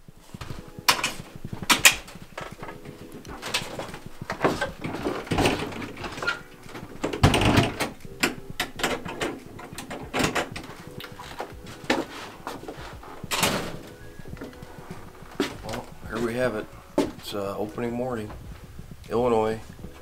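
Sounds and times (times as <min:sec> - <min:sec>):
clothing rustle: 0:00.0 - 0:20.0
footsteps on wooden porch: 0:00.0 - 0:20.0.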